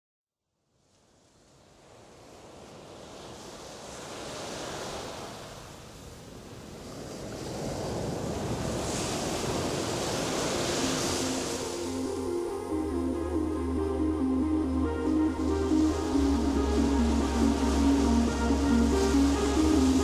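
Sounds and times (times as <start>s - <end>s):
sea surf washing: 1.8s - 20.0s.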